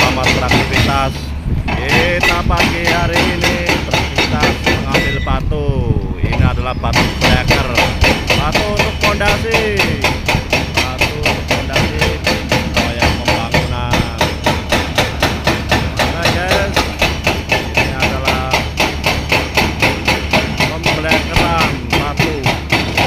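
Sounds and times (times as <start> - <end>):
hydraulic rock breaker hammering rock: 0.0 - 5.5, 6.2 - 23.0.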